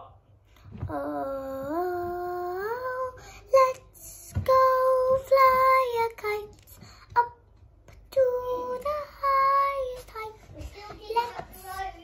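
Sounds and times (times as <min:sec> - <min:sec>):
girl singing: 0:00.6 - 0:12.0.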